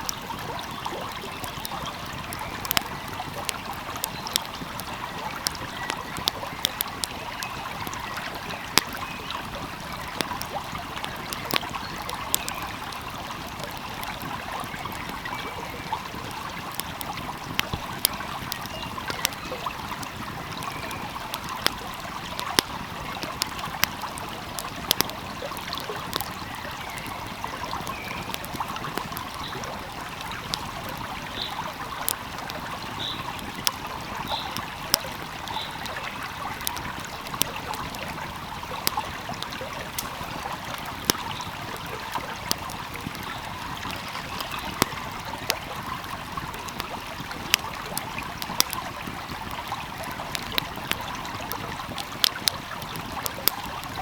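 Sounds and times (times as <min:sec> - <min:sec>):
stream flowing: 0:00.0 - 0:54.0
wood fire crackling: 0:00.0 - 0:54.0.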